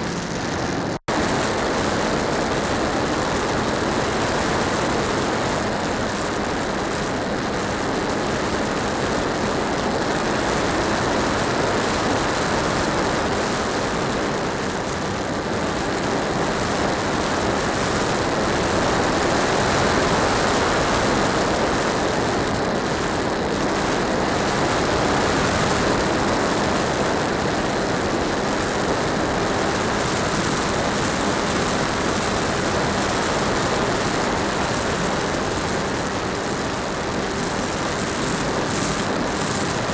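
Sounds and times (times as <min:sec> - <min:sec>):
electric motor and propeller whirring: 0:00.0 - 0:39.9
wind noise: 0:00.0 - 0:39.9.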